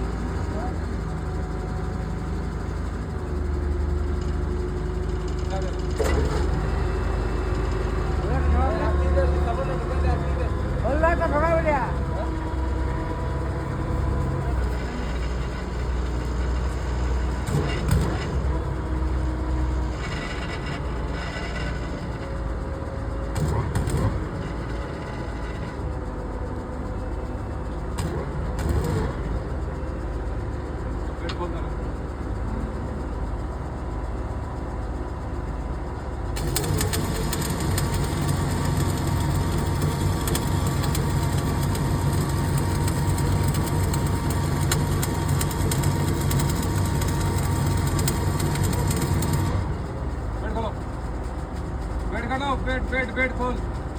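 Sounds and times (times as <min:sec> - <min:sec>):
heavy machinery engine rumbling: 0:00.0 - 0:53.9.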